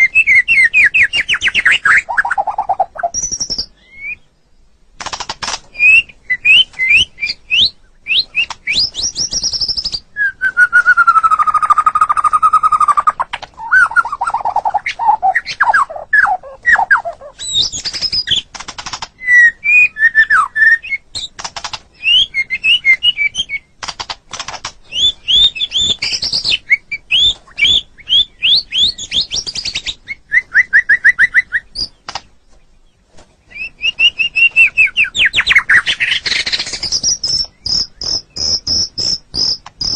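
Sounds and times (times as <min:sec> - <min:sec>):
bird singing whistled song: 0:00.0 - 0:04.4, 0:05.7 - 0:18.5, 0:19.2 - 0:21.3, 0:21.9 - 0:23.7, 0:24.8 - 0:32.1, 0:33.4 - 0:39.9.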